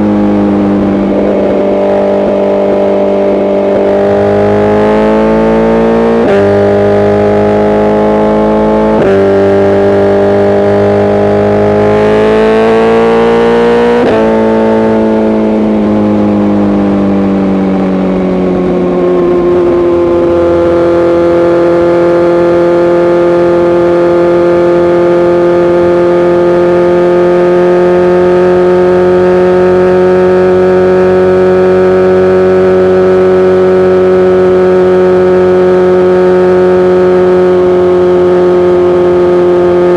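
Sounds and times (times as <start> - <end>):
motorcycle accelerating and upshifting: 0.0 - 39.9.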